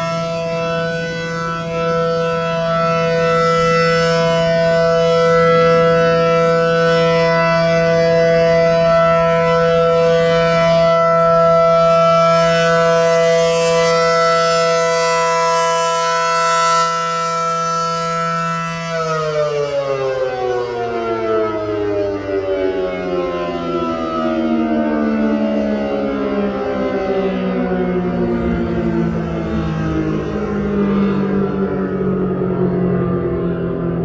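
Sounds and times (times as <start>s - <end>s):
rotating siren two-note chord: 0.0s - 34.0s.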